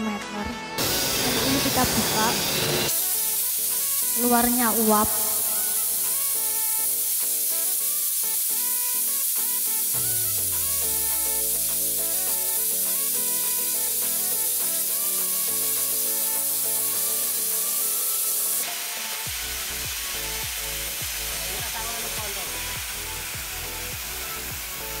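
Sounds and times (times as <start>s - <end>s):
background music: 0.0s - 25.0s
steam hissing from valve: 0.8s - 25.0s.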